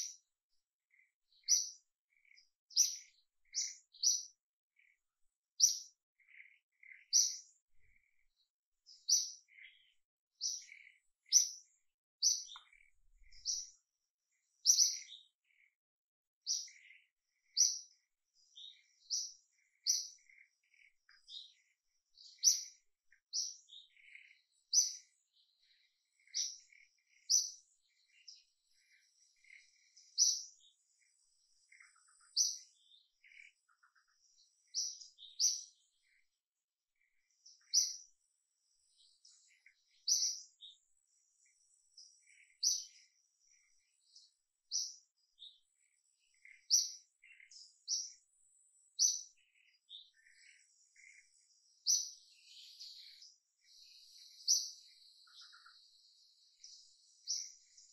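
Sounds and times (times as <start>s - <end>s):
lower bird calls: 0.0s - 15.8s, 16.4s - 36.3s, 37.0s - 38.2s, 38.8s - 57.9s
birds chirping: 0.0s - 57.9s.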